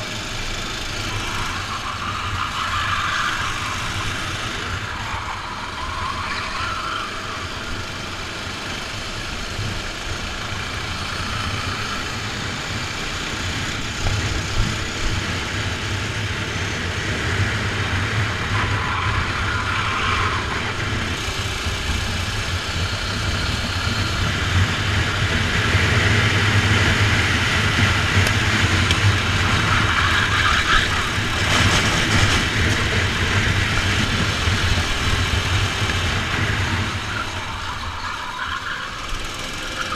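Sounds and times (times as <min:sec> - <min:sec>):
kart engine running: 0:00.0 - 0:39.9.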